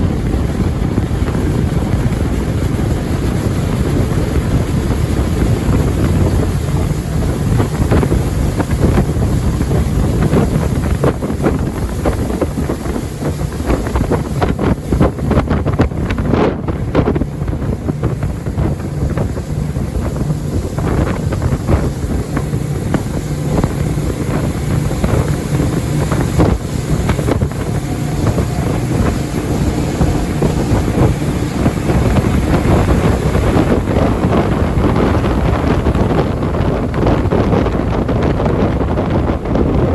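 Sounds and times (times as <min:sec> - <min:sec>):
jet boat engine drone: 0:00.0 - 0:39.9
wind buffeting microphone: 0:00.0 - 0:39.9.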